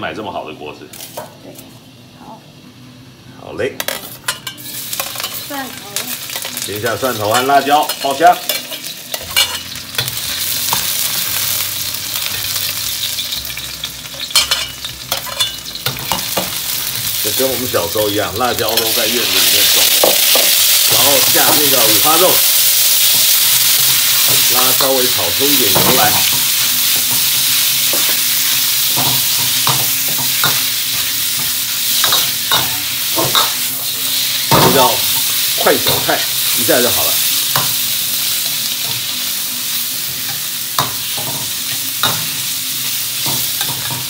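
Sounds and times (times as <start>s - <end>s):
garlic sizzling in hot oil: 3.9s - 44.0s.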